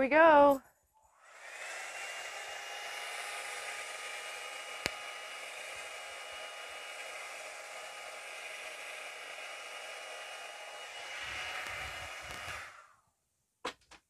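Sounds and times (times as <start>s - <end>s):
hair dryer blowing air: 1.2s - 13.0s.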